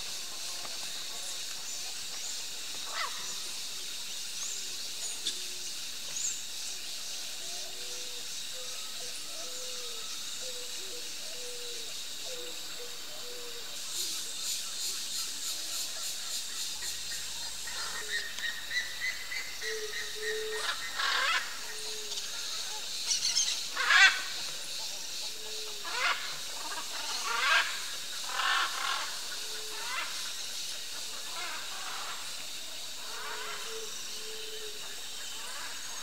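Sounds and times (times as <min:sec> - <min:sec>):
bird calls: 0:00.0 - 0:06.5, 0:07.3 - 0:36.0
insects droning: 0:00.0 - 0:36.0.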